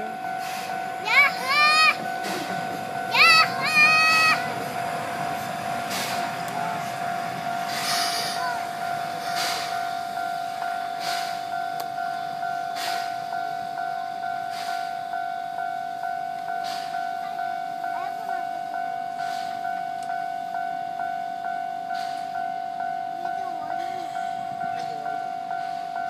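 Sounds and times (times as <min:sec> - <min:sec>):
level-crossing alarm ringing: 0:00.0 - 0:26.0
steam locomotive chuffing: 0:00.0 - 0:26.0.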